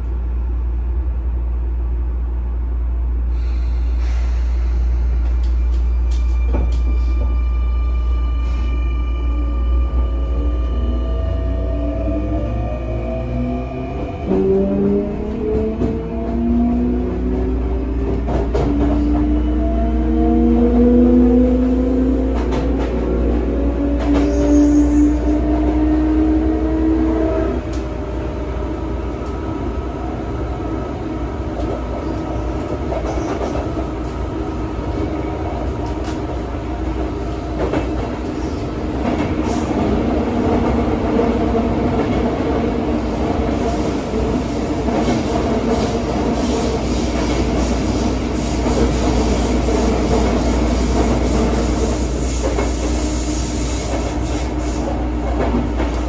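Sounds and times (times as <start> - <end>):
wheels rumbling on rails: 3.6 - 56.0.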